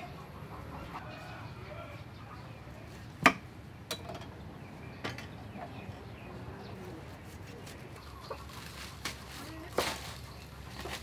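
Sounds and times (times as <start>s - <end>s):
faint birds calling: 0.0s - 11.0s.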